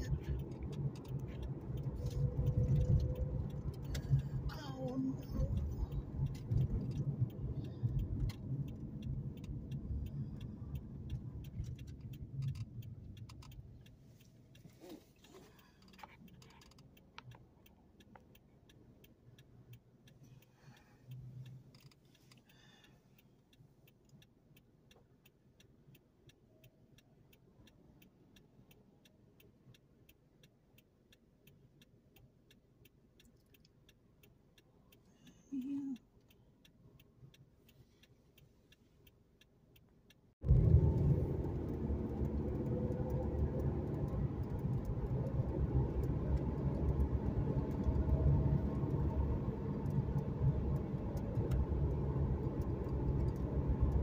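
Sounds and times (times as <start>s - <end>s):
car road and engine rumble: 0.0s - 54.0s
passing traffic: 0.0s - 54.0s
turn signal ticking: 0.0s - 54.0s.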